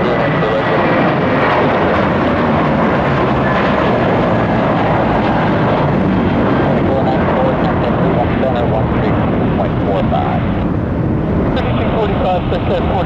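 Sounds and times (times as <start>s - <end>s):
jet engines at high power: 0.0s - 13.0s.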